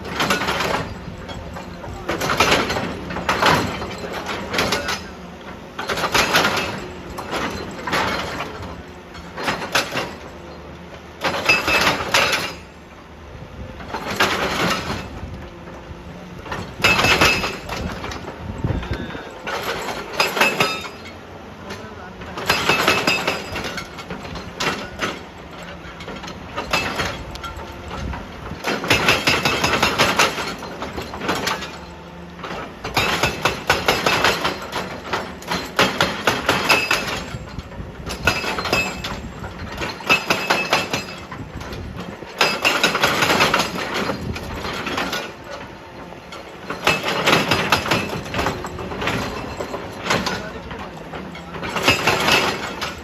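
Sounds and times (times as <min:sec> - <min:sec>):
hydraulic breaker hammering stone: 0:00.0 - 0:13.0, 0:13.7 - 0:53.0.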